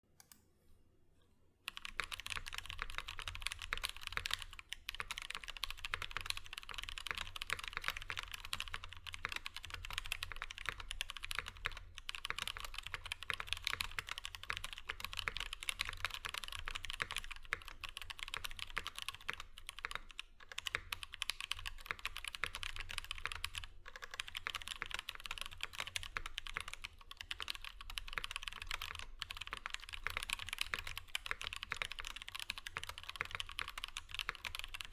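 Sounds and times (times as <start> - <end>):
mechanical keyboard typing: 1.7 - 34.9.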